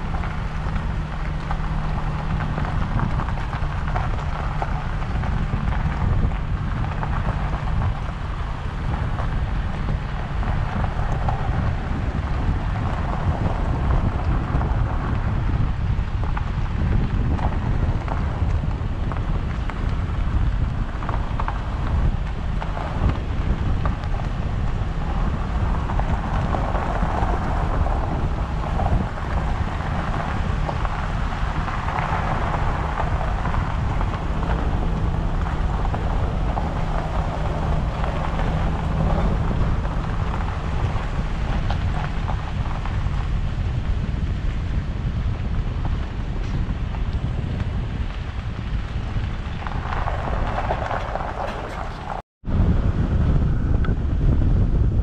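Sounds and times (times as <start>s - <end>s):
vehicle engine and road rumble: 0.0s - 55.0s
wind buffeting microphone: 0.0s - 55.0s.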